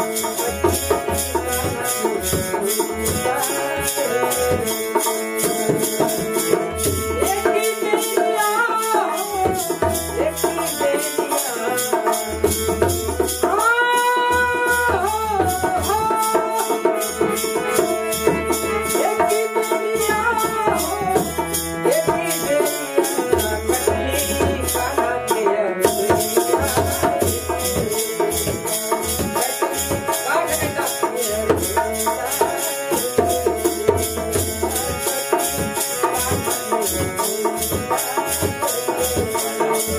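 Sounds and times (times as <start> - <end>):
harmonium chords: 0.0 - 39.9
man singing: 0.0 - 39.9.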